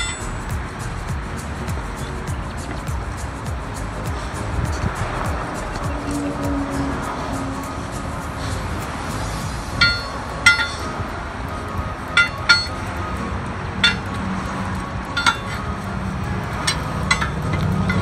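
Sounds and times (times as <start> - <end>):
tyre iron clinking on steel rim: 0.0 - 18.0.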